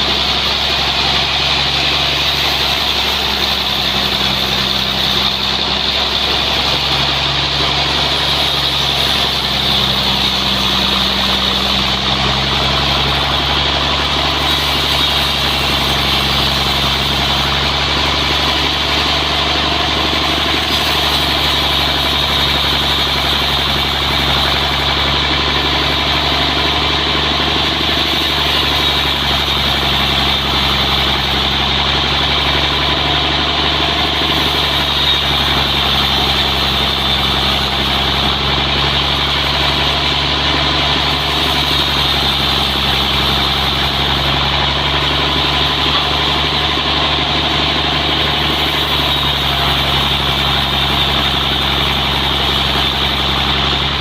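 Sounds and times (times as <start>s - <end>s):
sawmill engine hum: 0.0s - 54.0s.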